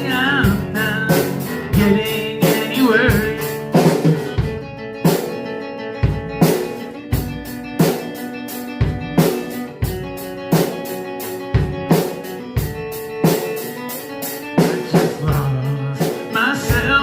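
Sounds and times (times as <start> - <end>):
drum kit beat: 0.0 - 17.0
electric guitar chords: 0.0 - 17.0.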